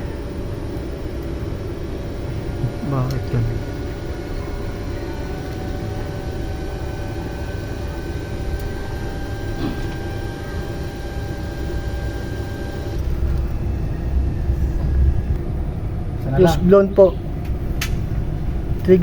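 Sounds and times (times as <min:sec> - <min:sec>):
low machinery rumble: 0:00.0 - 0:19.0
steady machinery tones: 0:00.0 - 0:19.0.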